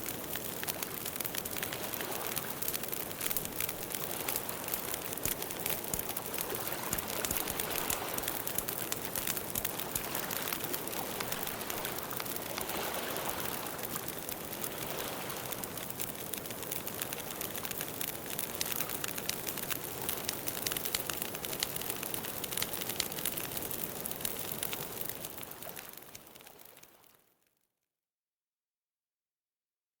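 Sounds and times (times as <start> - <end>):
campfire crackling: 0.0 - 27.1.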